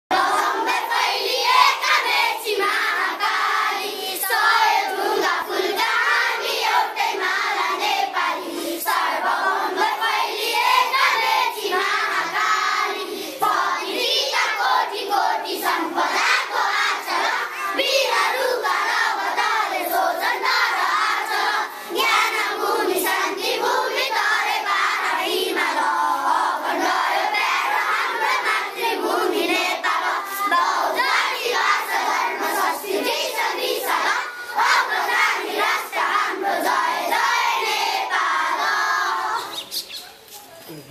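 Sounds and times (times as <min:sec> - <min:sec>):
children singing in unison: 0:00.1 - 0:39.8.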